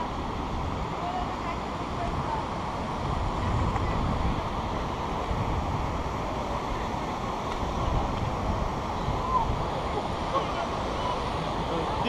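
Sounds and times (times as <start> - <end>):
river and waterfall rushing: 0.0 - 12.0
wind buffeting microphone: 0.0 - 12.0.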